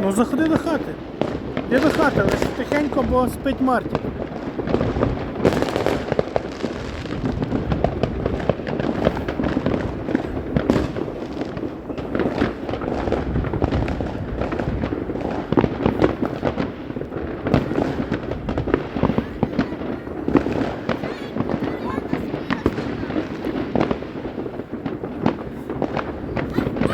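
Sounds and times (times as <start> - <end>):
fireworks crackling and rumbling: 0.0 - 26.9
loud firework reports: 0.0 - 26.9.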